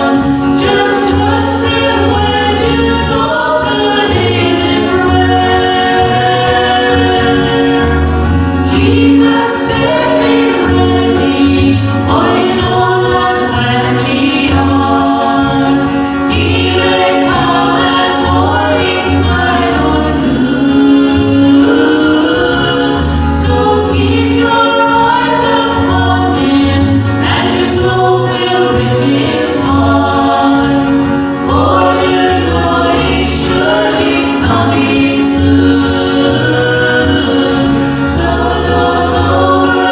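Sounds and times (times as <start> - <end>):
group singing in harmony: 0.0 - 39.9
instrumental accompaniment: 0.0 - 39.9.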